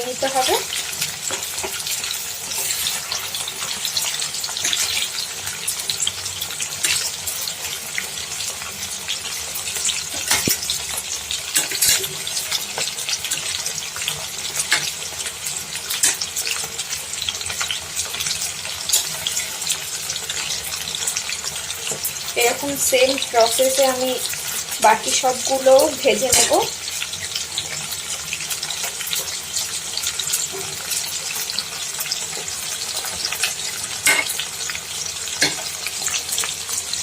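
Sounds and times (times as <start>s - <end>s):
chicken deep-frying in oil: 0.0s - 37.0s
oil popping and crackling: 0.0s - 37.0s.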